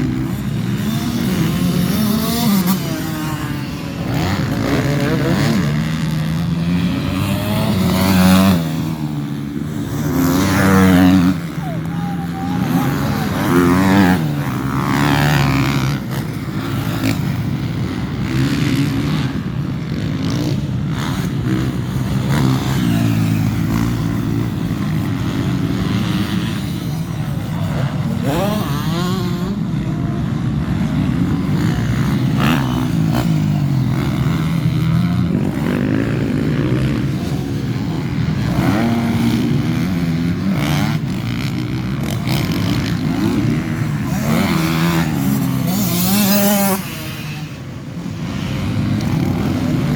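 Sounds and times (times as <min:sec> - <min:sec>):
motocross bikes revving: 0:00.0 - 0:49.9.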